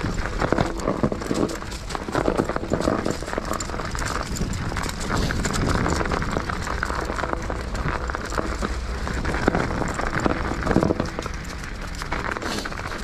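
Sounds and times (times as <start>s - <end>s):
bike rattling over bumps: 0.0s - 13.0s
bike tyres crunching snow: 0.0s - 13.0s.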